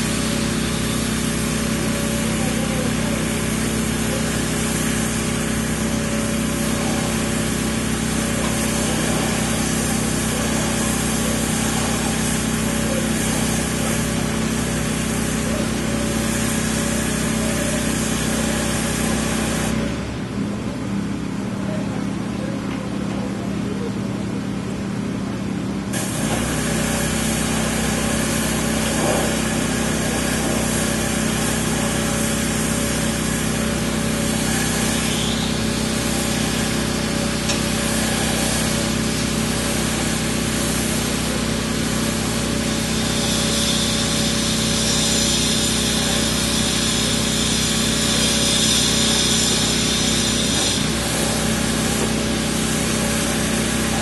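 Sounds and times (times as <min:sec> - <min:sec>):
power tool working concrete: 0:00.0 - 0:20.0, 0:25.9 - 0:54.0.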